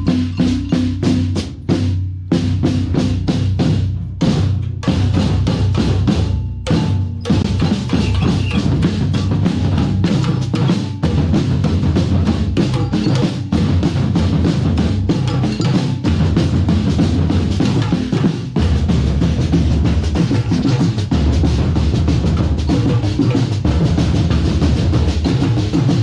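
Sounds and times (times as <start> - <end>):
drum band playing: 0.0 - 26.0.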